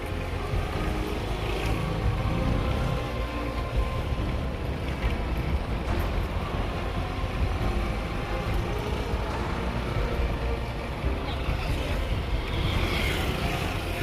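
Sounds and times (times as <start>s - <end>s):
road vehicle rumbling: 0.0s - 14.0s.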